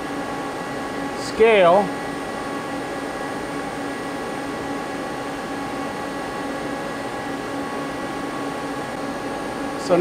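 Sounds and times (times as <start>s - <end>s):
lathe running hum: 0.0s - 10.0s.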